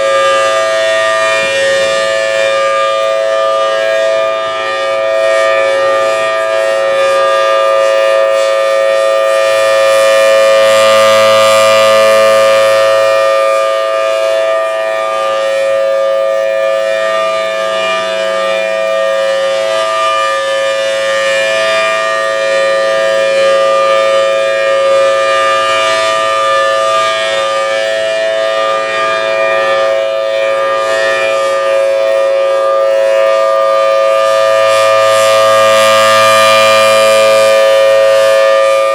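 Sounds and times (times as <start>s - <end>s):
civil defence siren steady tone: 0.0s - 38.9s
distant outdoor warning sirens: 0.0s - 38.9s.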